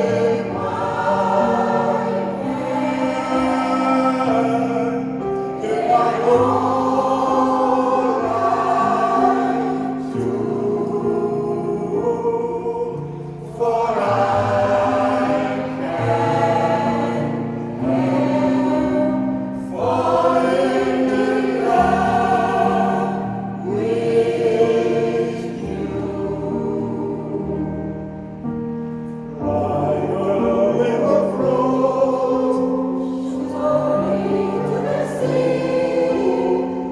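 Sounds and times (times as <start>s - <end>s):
choir singing in parts: 0.0s - 36.9s.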